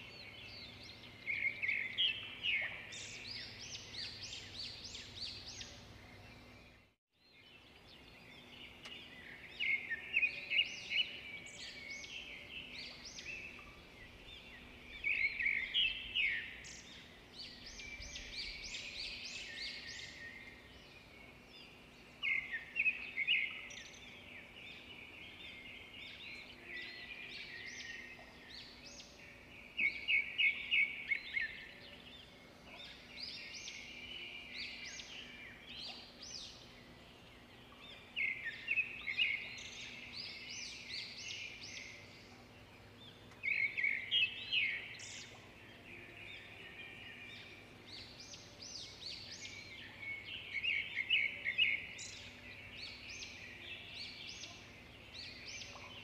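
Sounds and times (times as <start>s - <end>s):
faint outdoor background: 0.0s - 56.0s
songbirds chirping and singing: 0.0s - 56.0s.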